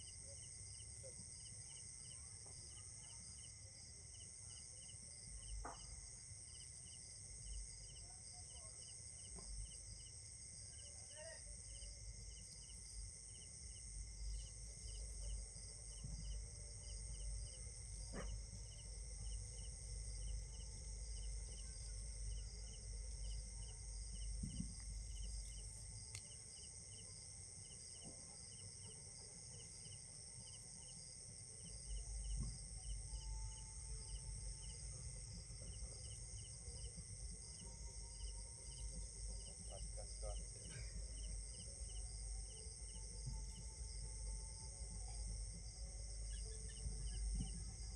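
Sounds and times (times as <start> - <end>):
insects chirping: 4.5 - 47.9.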